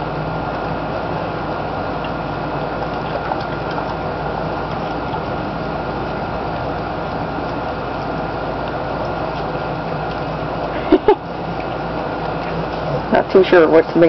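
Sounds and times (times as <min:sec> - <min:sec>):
low hum: 0:00.0 - 0:14.0
steady background noise: 0:00.0 - 0:14.0.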